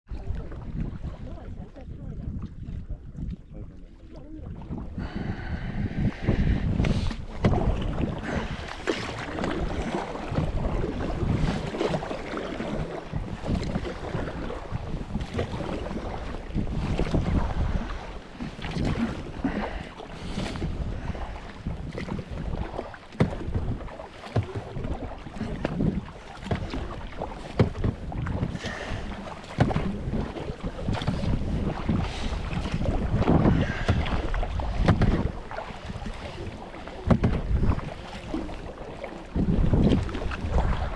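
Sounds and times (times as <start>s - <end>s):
water sloshing around kayak: 0.0s - 40.9s
wind buffeting microphone: 0.1s - 40.9s
sharp water splashes: 6.2s - 40.9s.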